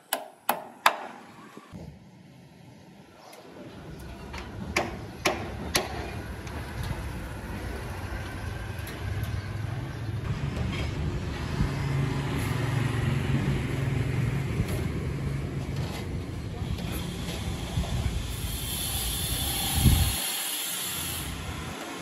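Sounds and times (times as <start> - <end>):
street traffic: 2.0 - 22.0.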